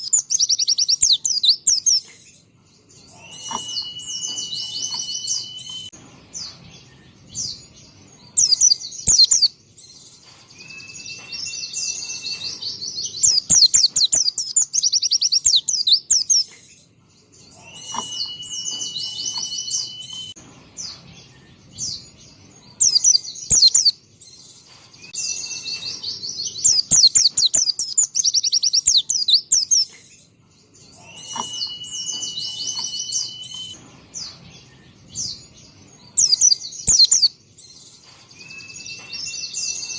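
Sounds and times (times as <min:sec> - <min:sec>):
bird twittering and trills: 0:00.0 - 0:39.9.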